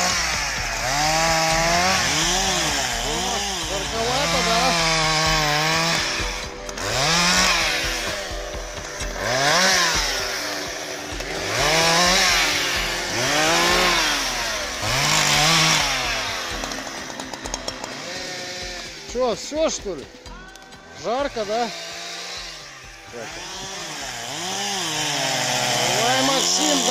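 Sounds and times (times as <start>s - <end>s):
chainsaw cutting log: 0.0s - 26.9s.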